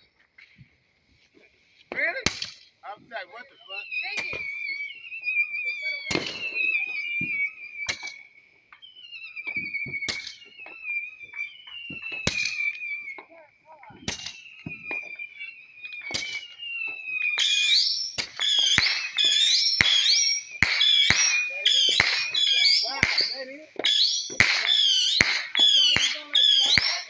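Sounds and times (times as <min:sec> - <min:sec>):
fireworks crackle: 0:00.0 - 0:27.0
fireworks banging: 0:00.2 - 0:27.0
high wavering whistle: 0:03.2 - 0:27.0.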